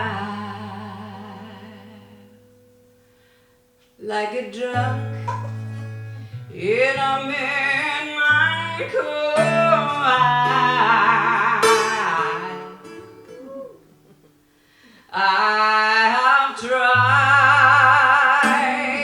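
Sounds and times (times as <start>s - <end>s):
woman singing: 0.0s - 2.4s, 4.0s - 5.8s, 6.5s - 13.8s, 15.1s - 19.0s
acoustic guitar: 0.0s - 19.0s.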